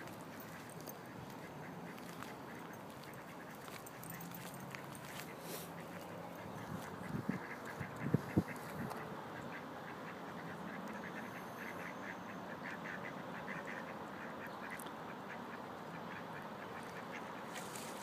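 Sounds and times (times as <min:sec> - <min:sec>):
ducks quacking: 0:00.3 - 0:04.4, 0:05.1 - 0:18.0.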